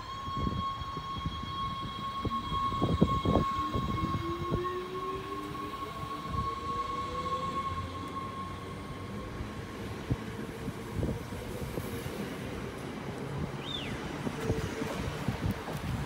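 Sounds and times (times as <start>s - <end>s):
train traction motor whine: 0.0s - 16.0s.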